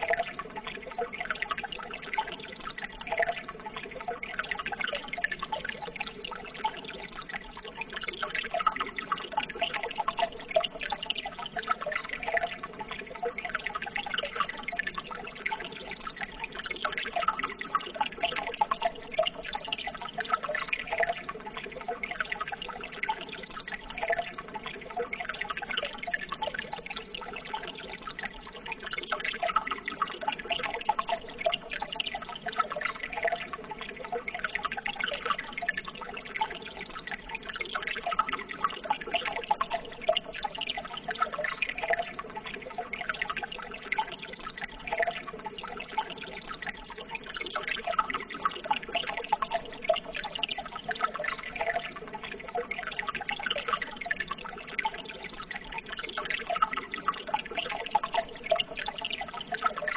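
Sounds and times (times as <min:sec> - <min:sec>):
water babbling: 0:00.0 - 0:59.9.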